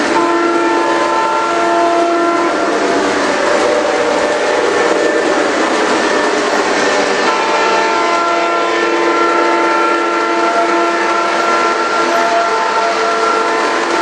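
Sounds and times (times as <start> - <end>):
multi-note air horn chord: 0.1 - 6.3, 7.1 - 14.0.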